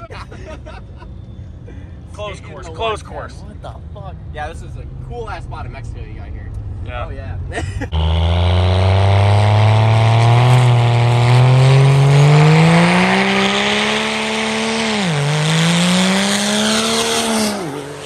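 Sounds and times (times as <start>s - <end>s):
diesel truck accelerating: 0.0s - 18.0s.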